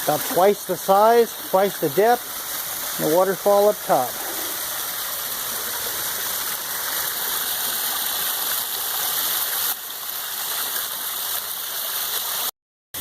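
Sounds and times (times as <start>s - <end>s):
water spilling into pond: 0.0s - 13.0s.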